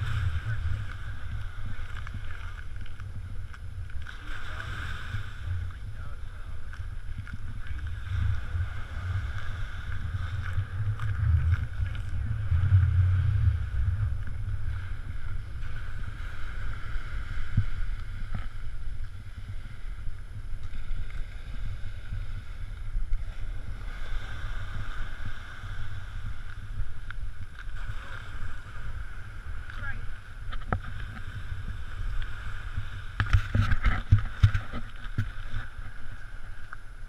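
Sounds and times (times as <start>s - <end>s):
surf on a beach: 0.0s - 37.0s
wind buffeting microphone: 0.0s - 37.0s.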